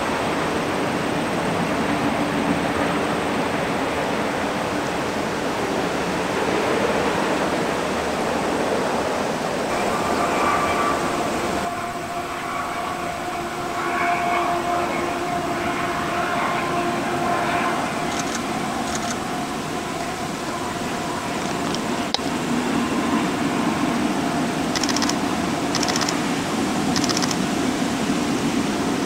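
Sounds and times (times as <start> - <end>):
diesel locomotive engines humming: 0.0 - 29.0.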